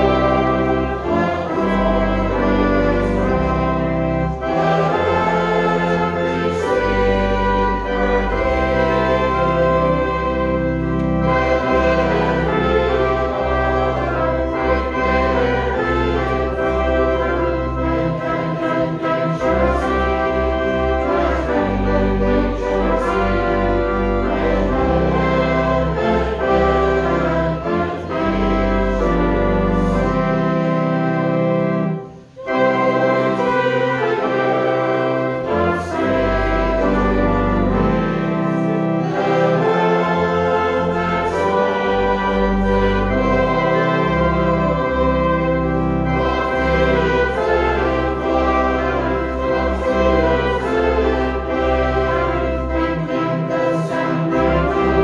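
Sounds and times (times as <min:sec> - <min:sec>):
organ and brass playing hymn: 0:00.0 - 0:55.0.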